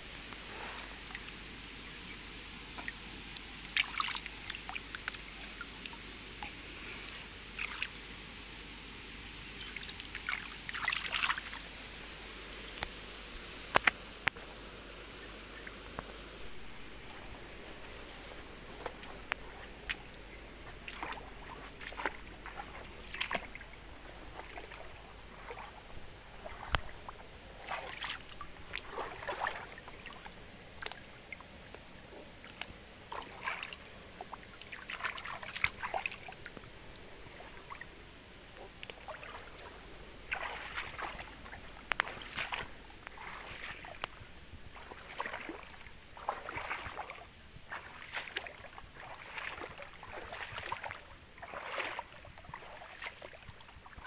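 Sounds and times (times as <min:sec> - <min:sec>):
water trickling: 0:00.0 - 0:08.2, 0:09.0 - 0:54.0
water splashing in stream: 0:00.1 - 0:06.7, 0:07.4 - 0:08.1, 0:09.4 - 0:12.0, 0:12.6 - 0:54.0.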